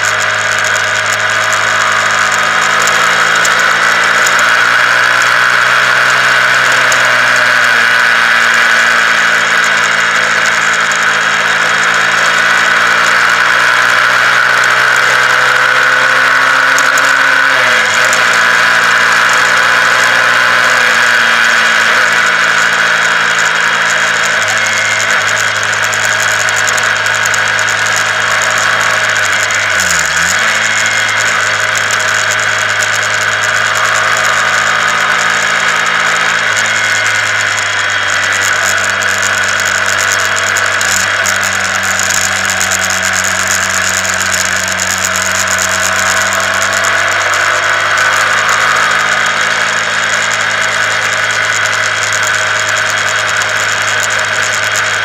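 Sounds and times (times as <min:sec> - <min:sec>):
motorcycle engine cruising: 0:00.0 - 0:55.0
road noise: 0:00.0 - 0:55.0.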